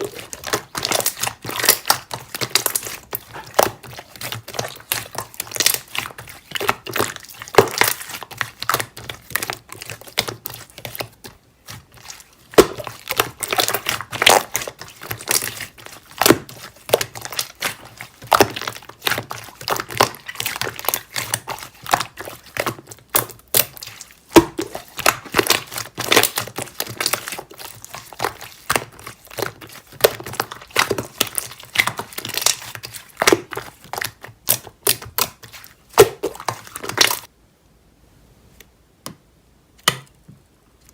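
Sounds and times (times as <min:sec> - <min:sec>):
slime squishing with sticky clicks: 0:00.0 - 0:37.3.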